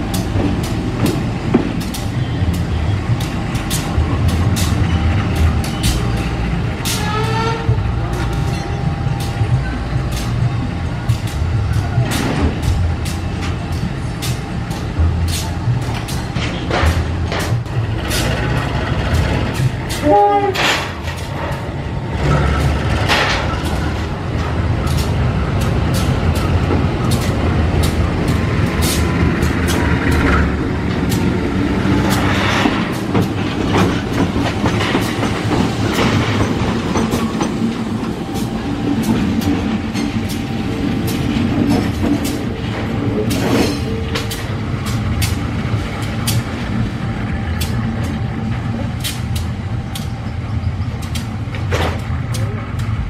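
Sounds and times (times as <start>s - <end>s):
diesel locomotive engine running: 0.0s - 53.0s
wheels clanking on rails: 0.0s - 53.0s.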